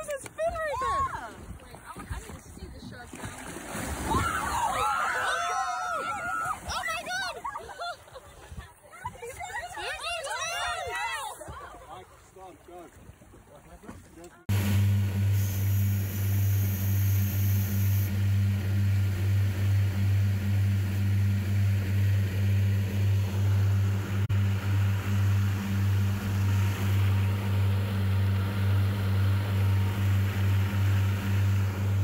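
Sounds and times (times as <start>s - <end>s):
outboard motor droning: 0.0s - 32.0s.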